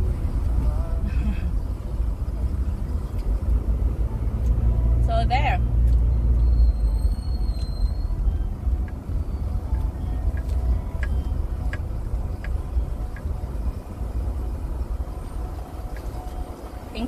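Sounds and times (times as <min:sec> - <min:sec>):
car interior rumble: 0:00.0 - 0:17.0.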